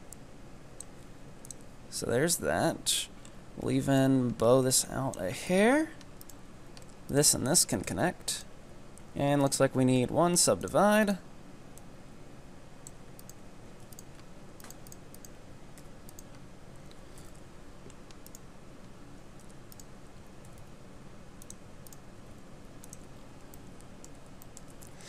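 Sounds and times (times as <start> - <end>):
faint steady background hum: 0.0 - 25.0.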